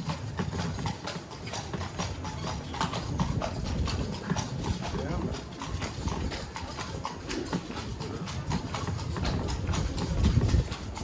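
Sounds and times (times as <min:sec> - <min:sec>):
carriage rolling rumble: 0:00.0 - 0:11.0
hooves clip-clopping on cobblestones: 0:00.0 - 0:11.0.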